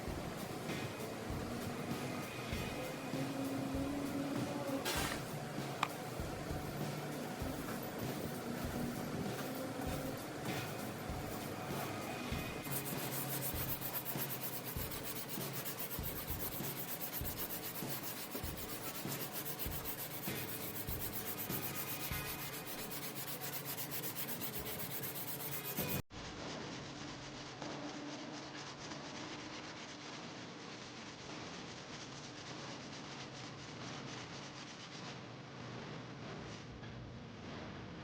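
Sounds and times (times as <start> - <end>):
sandpaper rasping on filler: 0.0 - 6.0, 6.6 - 26.0, 26.8 - 35.4.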